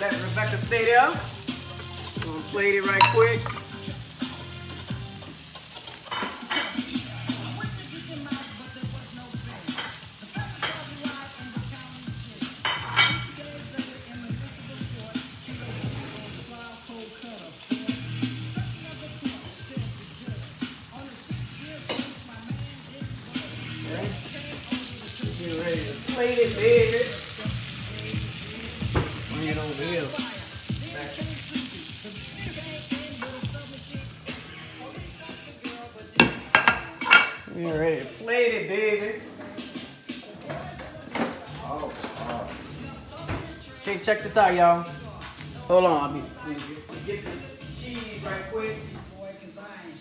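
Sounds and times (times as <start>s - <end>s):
vegetables sizzling in a skillet: 0.0s - 50.0s.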